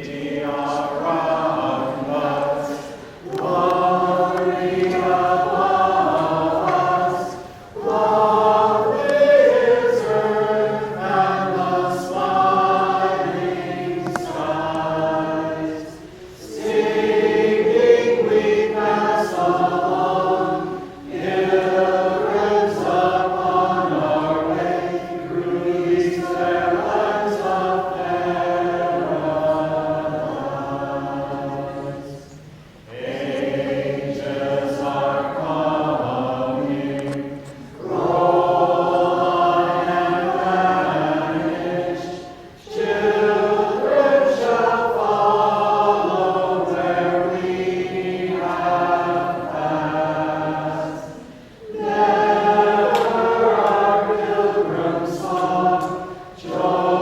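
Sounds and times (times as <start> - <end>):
group of singers singing: 0.0 - 57.0.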